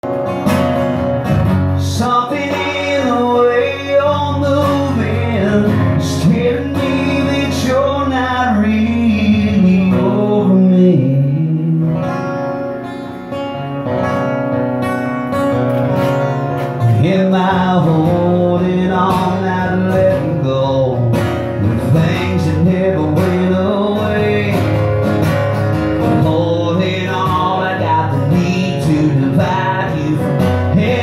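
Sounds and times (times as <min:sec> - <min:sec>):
acoustic guitar: 0:00.0 - 0:31.0
man singing: 0:01.7 - 0:12.8, 0:16.8 - 0:31.0.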